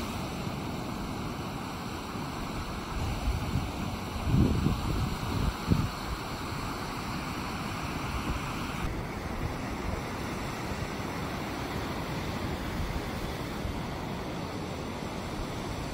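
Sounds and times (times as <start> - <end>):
ocean surf on beach: 0.0 - 15.9.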